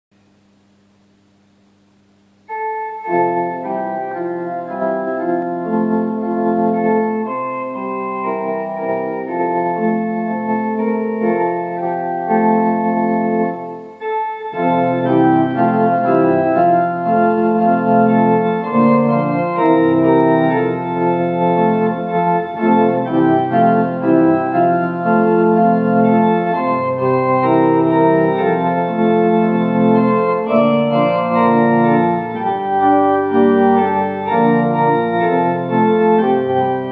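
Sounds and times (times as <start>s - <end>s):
church organ playing a hymn: 2.5s - 36.9s.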